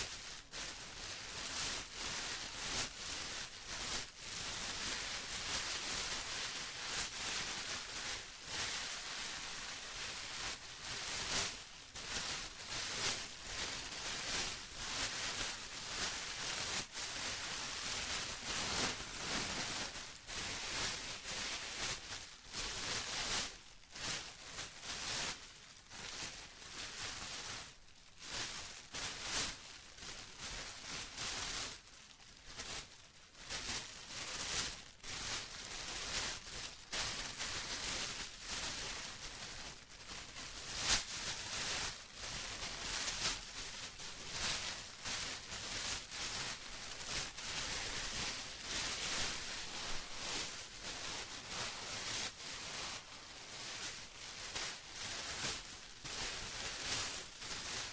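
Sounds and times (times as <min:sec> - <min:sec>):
plastic crinkling: 0:00.1 - 0:25.2, 0:33.4 - 0:57.9.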